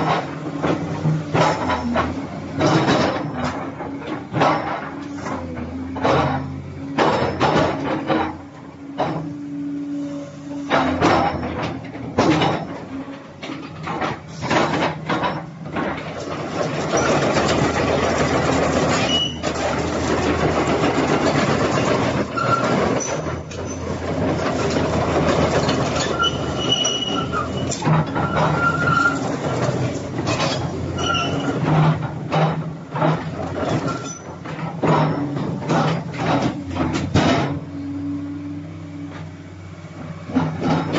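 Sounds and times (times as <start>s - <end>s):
metal clanks and knocks: 0.0s - 9.5s, 10.6s - 37.7s, 40.3s - 40.9s
excavator engine humming: 0.0s - 40.9s.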